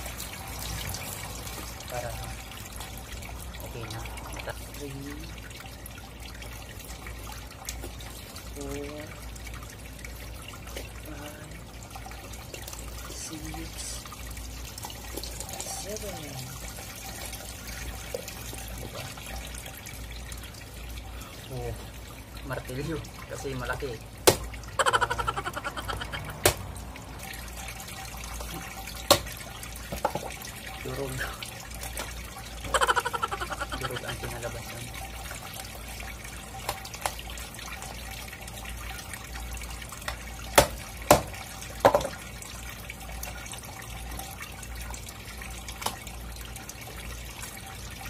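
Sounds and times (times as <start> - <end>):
running water trickling: 0.0 - 48.0.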